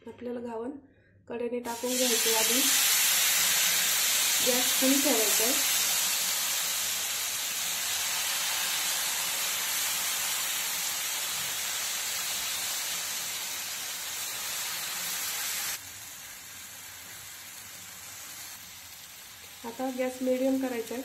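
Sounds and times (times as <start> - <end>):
batter sizzling on hot griddle: 1.7 - 21.0.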